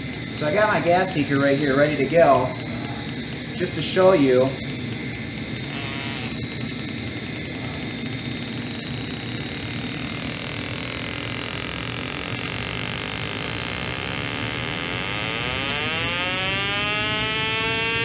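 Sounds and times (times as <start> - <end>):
gas detector buzzing: 0.0 - 18.0
inducer fan whirring: 0.0 - 18.0.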